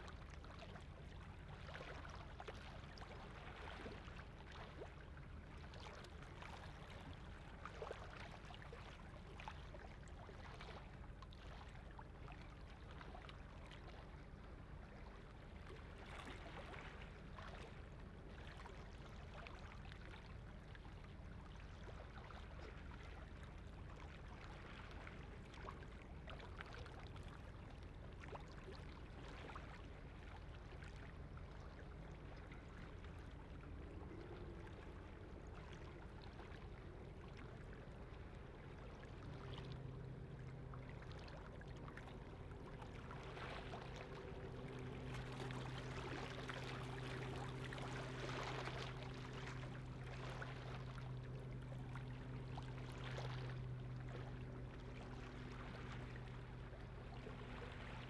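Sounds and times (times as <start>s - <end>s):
water lapping and trickling: 0.0s - 58.0s.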